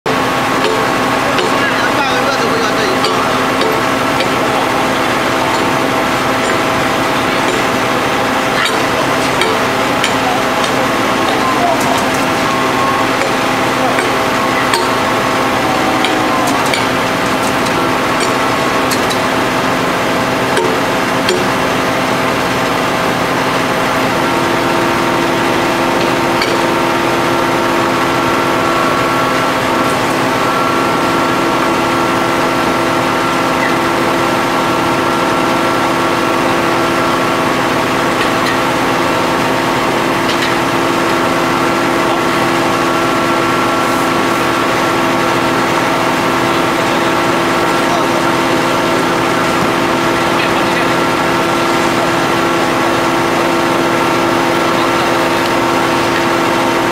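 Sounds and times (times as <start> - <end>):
hydraulic pump engine whining: 0.0 - 56.9.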